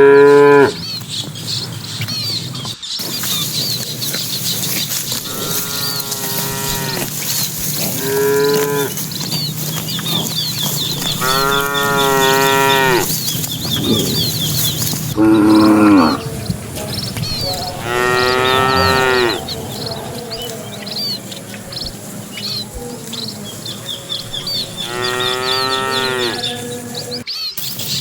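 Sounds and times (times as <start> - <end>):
cattle mooing: 0.0 - 0.8, 5.1 - 27.2
small birds chirping: 0.0 - 28.0.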